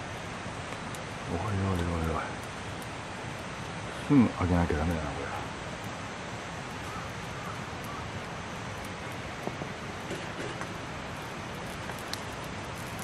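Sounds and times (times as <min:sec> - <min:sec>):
steady rushing hiss: 0:00.0 - 0:13.0
wood fire crackling pops: 0:00.0 - 0:13.0.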